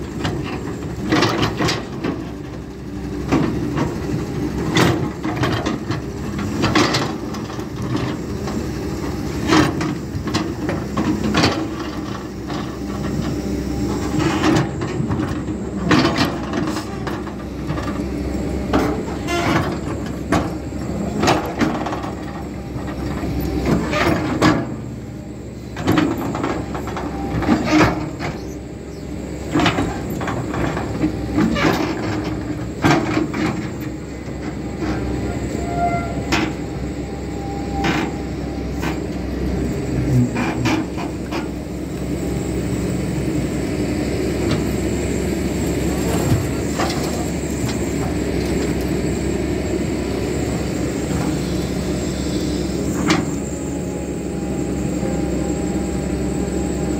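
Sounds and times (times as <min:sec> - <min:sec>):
excavator engine under load: 0:00.0 - 0:56.9.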